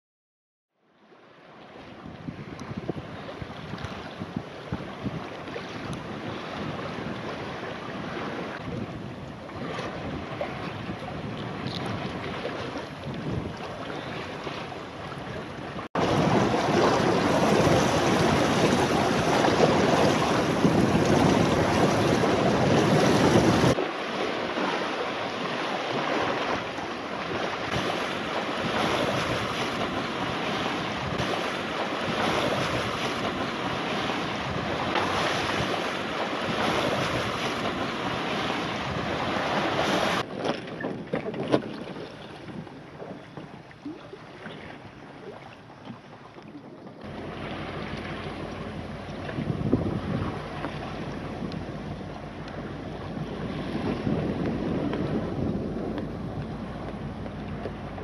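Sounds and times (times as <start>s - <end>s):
sea water rushing: 1.0s - 58.0s
wind buffeting microphone: 1.8s - 23.8s, 24.4s - 58.0s.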